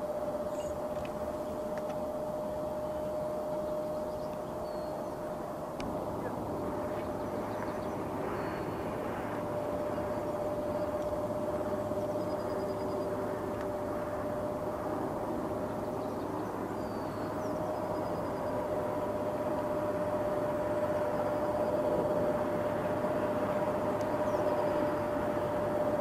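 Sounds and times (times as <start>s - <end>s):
distant jet engines: 0.0s - 26.0s.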